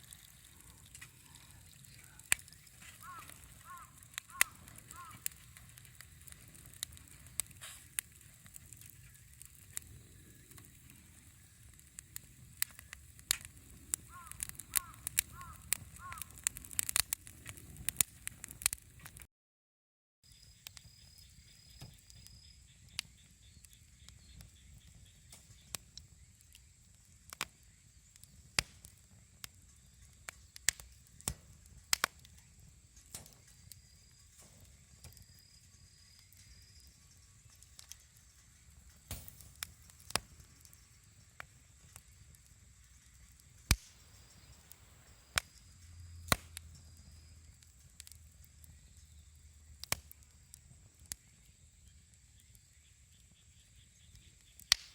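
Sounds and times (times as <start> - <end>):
campfire crackling: 0.0 - 19.3, 20.4 - 54.9.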